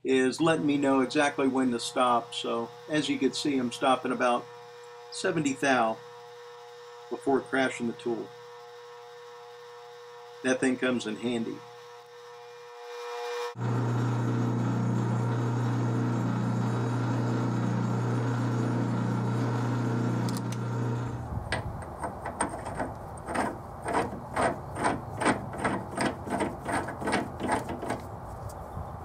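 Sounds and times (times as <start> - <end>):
metal lathe motor hum: 0.7 - 28.0.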